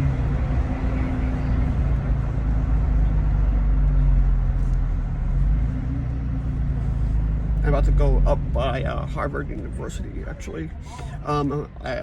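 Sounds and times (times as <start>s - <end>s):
deep engine exhaust hum: 0.0s - 12.0s.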